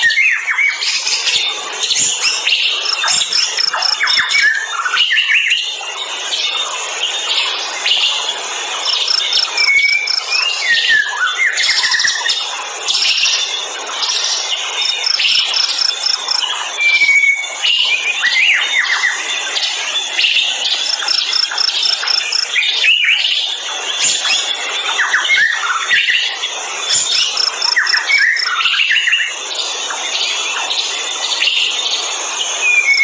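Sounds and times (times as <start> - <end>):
birds gliding whistled calls: 0.0 - 33.0.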